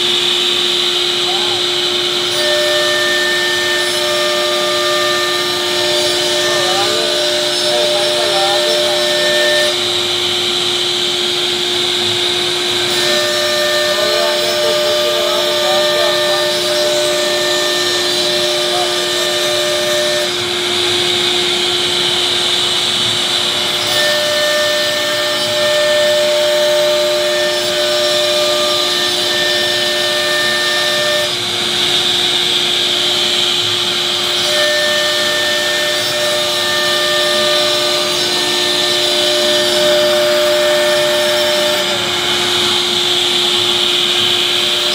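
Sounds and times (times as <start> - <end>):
hiss of cutting and dust extraction: 0.0 - 44.9
router spindle whine: 0.0 - 44.9.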